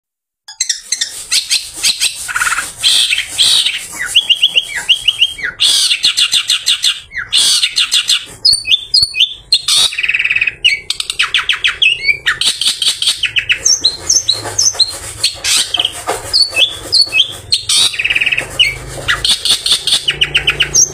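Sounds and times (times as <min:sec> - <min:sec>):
shrike singing rapid trills: 0:00.6 - 0:20.9.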